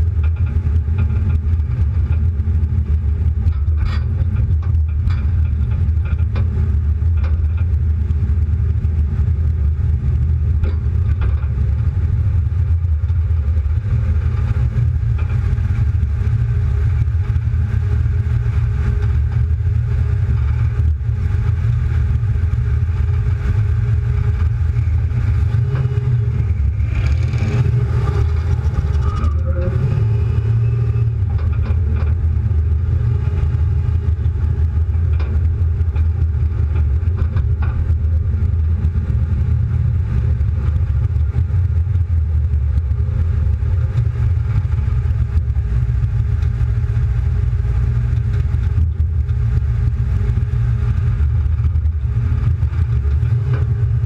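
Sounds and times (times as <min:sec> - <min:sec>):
car engine and exhaust rumbling: 0:00.0 - 0:54.0
road noise: 0:00.0 - 0:54.0.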